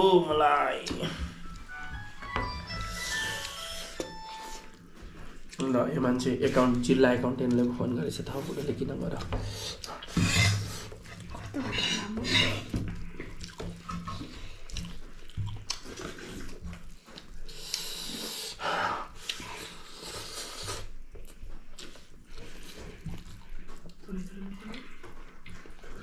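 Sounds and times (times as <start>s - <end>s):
people chewing and slurping: 0.0s - 26.0s.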